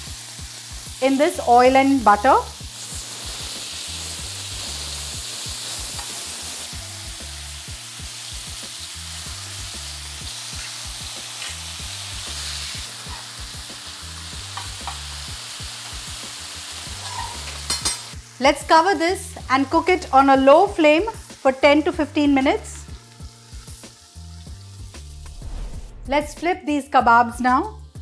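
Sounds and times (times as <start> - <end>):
meat sizzling in oil: 0.0 - 25.4.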